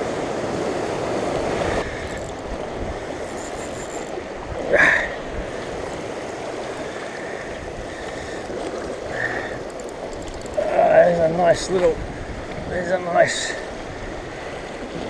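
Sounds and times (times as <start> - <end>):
sea surf washing around rocks: 0.0 - 15.0.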